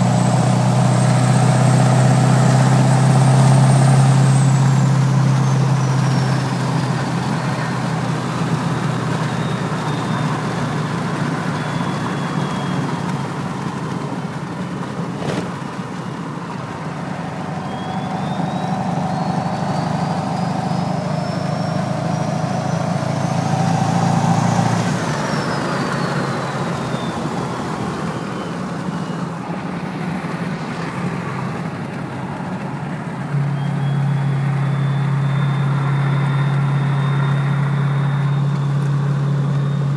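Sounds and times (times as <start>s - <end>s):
diesel engine drone: 0.0s - 39.9s
turbo whistling: 0.1s - 13.8s, 16.7s - 30.9s, 33.3s - 39.9s.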